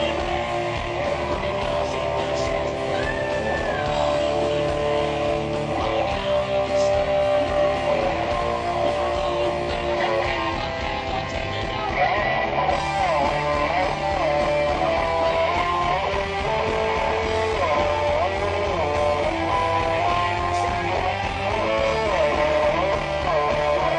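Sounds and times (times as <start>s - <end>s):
hard rock band playing: 0.0s - 23.9s.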